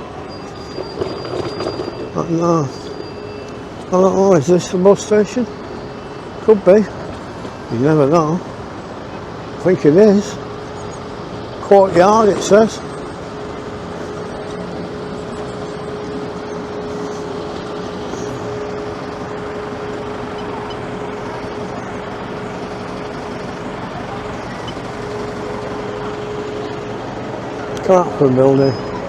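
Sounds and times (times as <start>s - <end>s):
constant whine: 0.0s - 29.0s
street traffic: 0.0s - 29.0s
wind: 0.0s - 29.0s.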